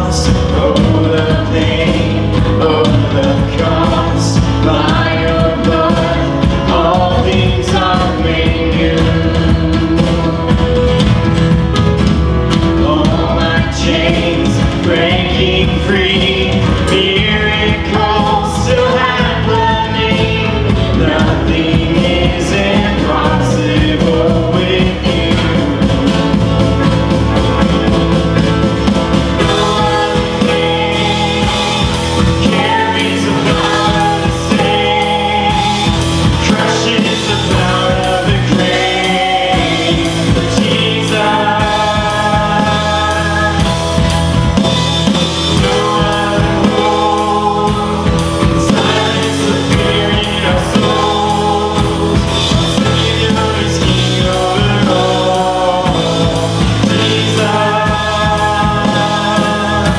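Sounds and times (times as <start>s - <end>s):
drums: 0.0s - 59.9s
live worship band playing: 0.0s - 59.9s
sung vocals: 0.0s - 59.9s.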